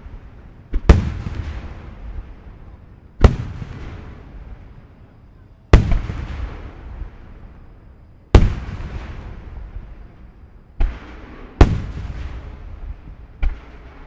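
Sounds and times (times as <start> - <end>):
firework booms with rumbling echo: 0.0 - 14.0.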